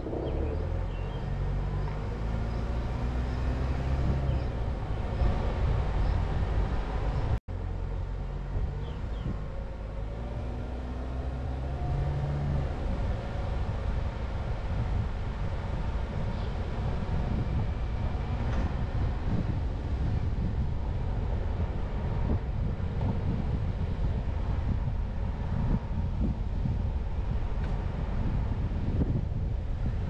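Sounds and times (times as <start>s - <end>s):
wind on microphone: 0.0s - 7.4s, 8.3s - 30.0s
car road and engine noise: 0.0s - 30.0s.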